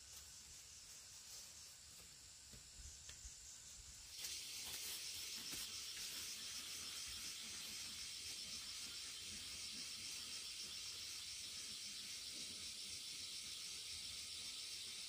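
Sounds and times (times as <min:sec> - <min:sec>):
insects buzzing chorus: 0:00.0 - 0:15.0.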